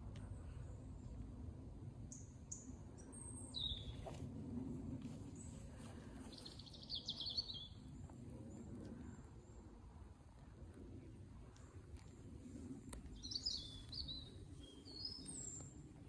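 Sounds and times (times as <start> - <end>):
low steady rumble: 0.0 - 16.0
songbirds chirping: 0.0 - 16.0.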